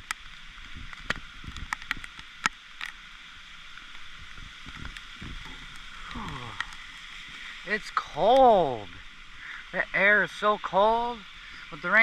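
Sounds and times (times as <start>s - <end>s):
rain falling through leaves: 0.0s - 12.0s
sharp raindrops hitting: 0.0s - 12.0s.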